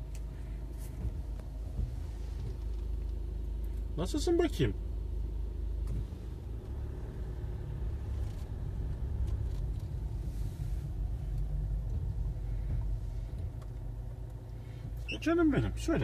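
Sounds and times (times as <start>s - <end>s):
car engine rumble: 0.0s - 16.0s
road noise: 0.0s - 16.0s.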